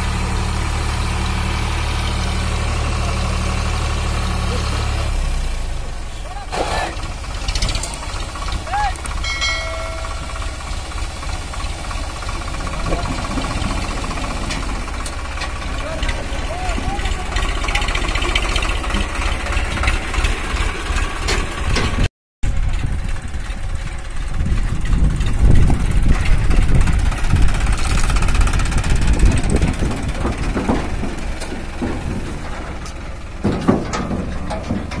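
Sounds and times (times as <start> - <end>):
tractor diesel engine labouring: 0.0 - 35.0.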